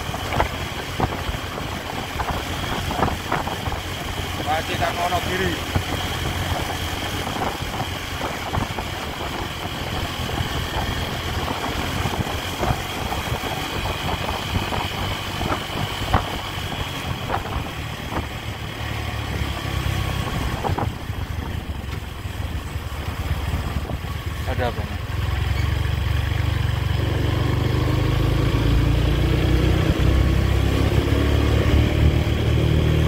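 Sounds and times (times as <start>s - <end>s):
motorcycle engine running: 0.0s - 33.0s
wind and road noise: 0.0s - 33.0s.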